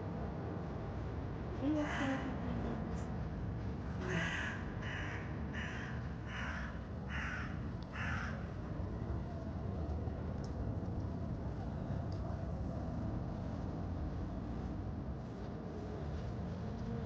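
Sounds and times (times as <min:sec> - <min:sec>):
low street rumble: 0:00.0 - 0:17.0.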